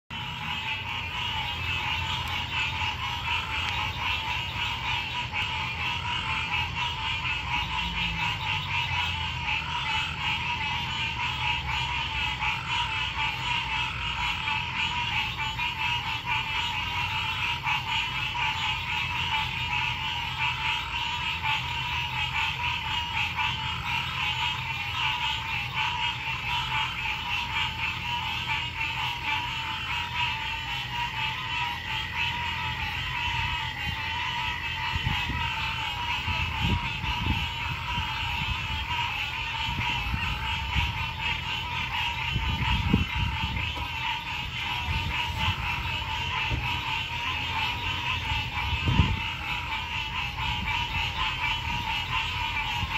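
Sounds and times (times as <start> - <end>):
frogs trilling: 0.1 - 52.9
low repeating frog note: 0.1 - 52.9.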